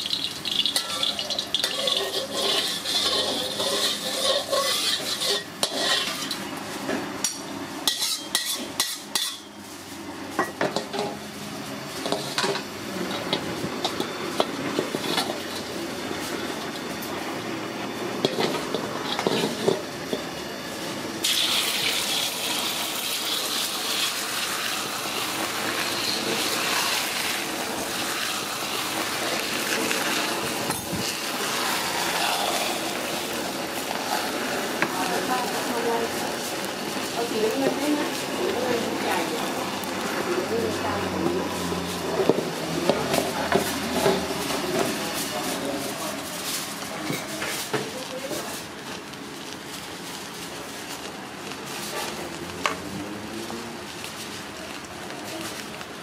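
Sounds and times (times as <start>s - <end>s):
metal utensil scraping wok: 0.0s - 17.3s, 18.2s - 48.7s
egg sizzling in oil: 0.0s - 46.9s.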